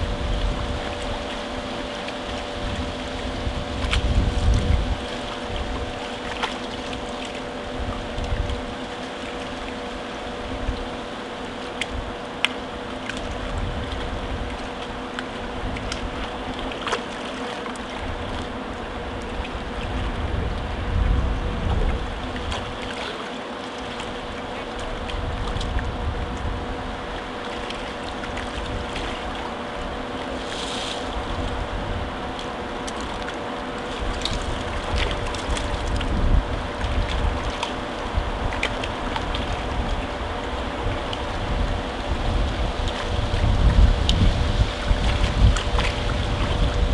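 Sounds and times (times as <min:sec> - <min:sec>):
wind rumble on microphone: 0:00.0 - 0:46.9.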